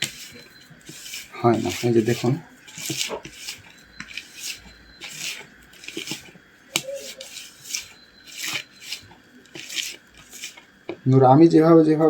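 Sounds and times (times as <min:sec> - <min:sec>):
hands kneading dough: 0:00.0 - 0:11.2.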